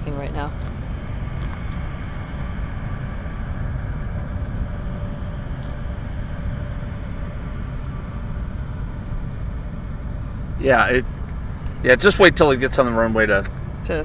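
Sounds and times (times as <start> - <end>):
faint engine whine: 0.0 - 14.0
jet engines rumbling: 0.0 - 14.0.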